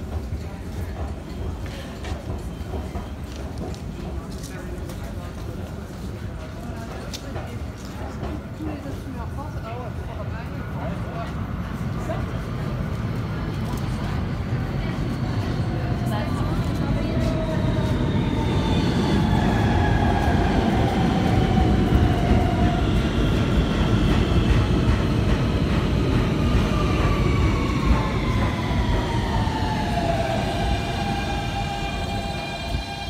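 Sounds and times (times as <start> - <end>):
subway wheels rumbling on rail: 0.0 - 33.0.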